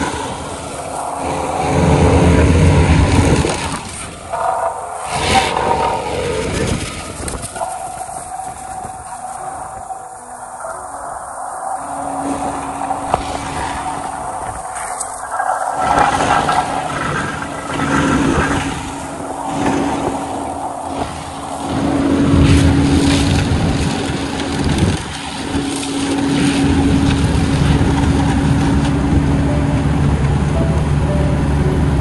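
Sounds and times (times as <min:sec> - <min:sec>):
road paver engine humming: 0:00.0 - 0:32.0.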